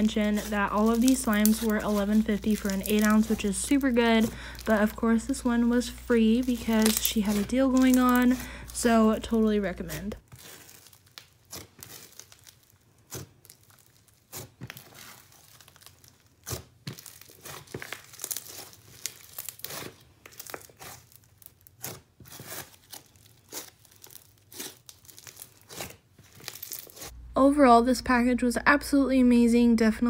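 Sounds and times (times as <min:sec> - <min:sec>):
slime crackling and popping: 0:00.0 - 0:27.1.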